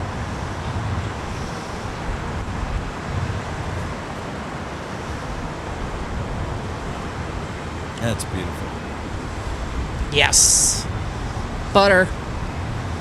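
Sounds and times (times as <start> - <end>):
jet engines rumbling on landing: 0.0 - 13.0.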